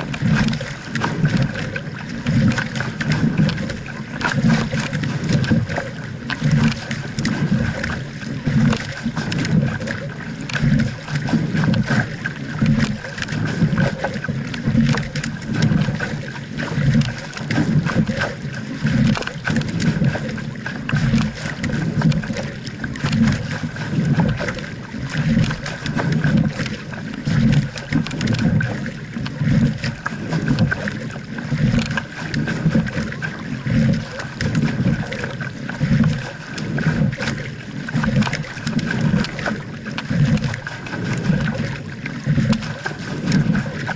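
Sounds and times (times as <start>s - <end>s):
water splashing along hull: 0.0s - 43.9s
wind rumbling on microphone: 0.0s - 43.9s.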